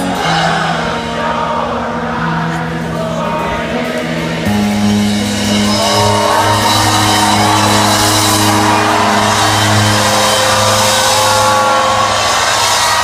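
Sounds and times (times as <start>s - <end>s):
rock band playing chords: 0.0s - 13.0s.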